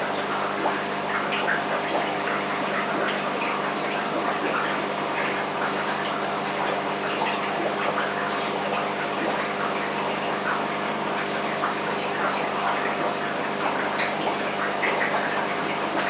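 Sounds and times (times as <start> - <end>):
steady motor hum: 0.0 - 16.0
water bubbling and trickling: 0.0 - 16.0.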